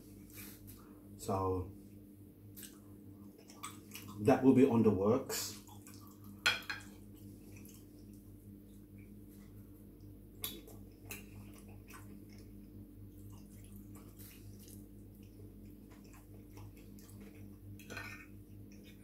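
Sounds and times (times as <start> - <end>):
steady low hum: 0.0 - 19.0
quiet chewing: 2.4 - 4.2, 5.5 - 19.0.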